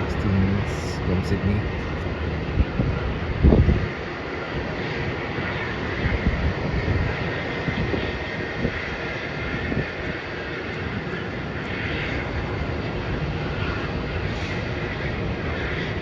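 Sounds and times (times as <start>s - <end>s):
distant jet engine rumble: 0.0s - 16.0s
jet engine whine: 0.0s - 16.0s.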